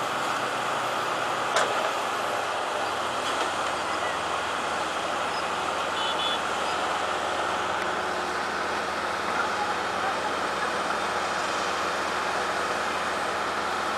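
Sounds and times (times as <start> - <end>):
heavy machine running: 0.0 - 13.9.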